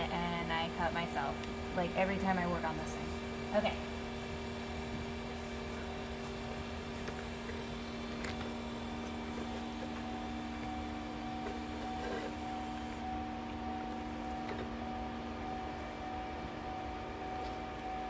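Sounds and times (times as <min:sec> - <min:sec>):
pump humming: 0:00.0 - 0:18.0.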